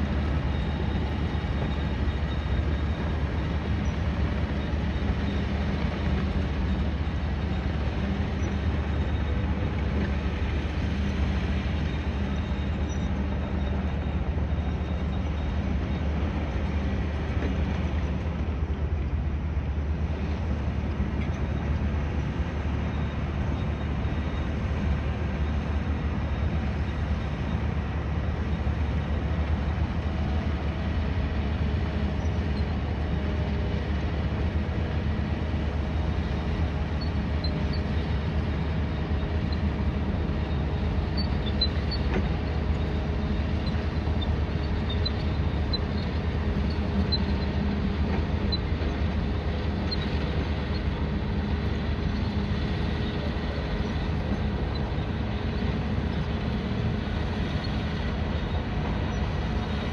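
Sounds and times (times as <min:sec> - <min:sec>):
construction machinery hum: 0:00.0 - 0:59.9
faint steady engine tone: 0:00.0 - 0:59.9
traffic hum: 0:00.0 - 0:59.9.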